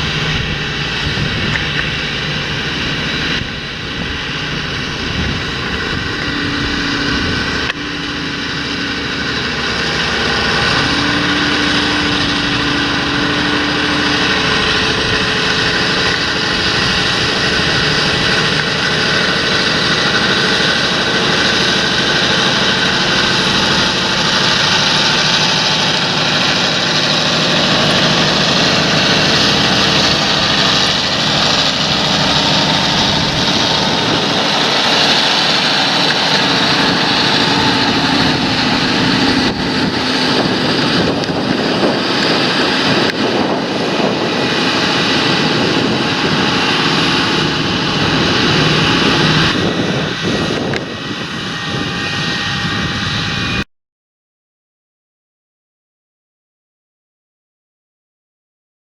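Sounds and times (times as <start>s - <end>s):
tractor engine running: 0.0s - 53.6s.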